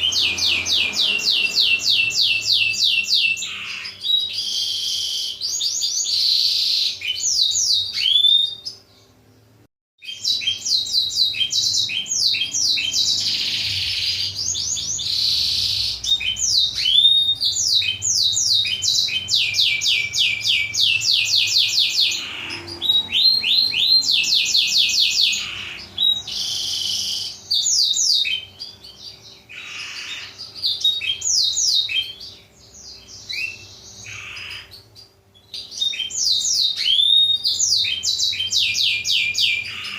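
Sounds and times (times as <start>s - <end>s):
canary song with fast trills: 0.0s - 39.9s
faint steady hum: 0.0s - 39.9s.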